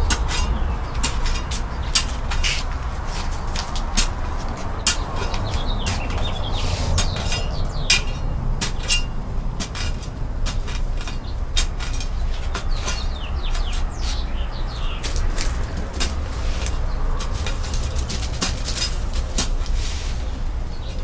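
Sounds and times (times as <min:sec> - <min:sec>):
hand tool scraping ground: 0:00.0 - 0:20.4
birds chirping: 0:00.0 - 0:21.0.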